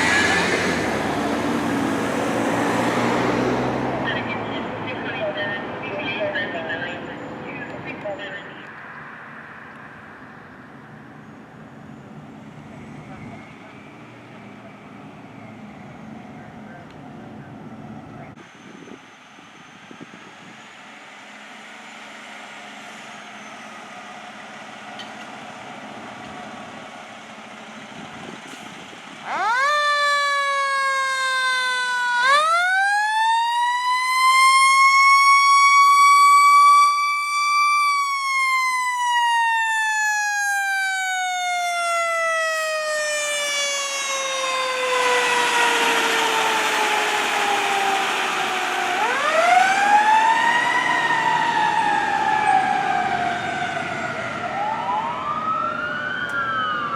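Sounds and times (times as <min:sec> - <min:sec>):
emergency vehicle siren: 0:00.0 - 0:21.1, 0:21.8 - 0:56.9
street noise: 0:00.0 - 0:34.5, 0:37.9 - 0:56.9.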